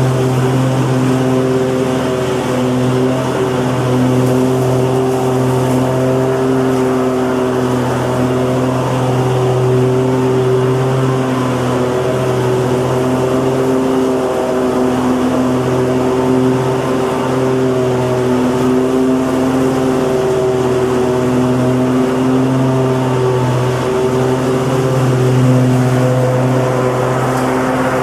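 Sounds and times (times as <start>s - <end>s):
lawnmower engine running: 0.0s - 28.0s.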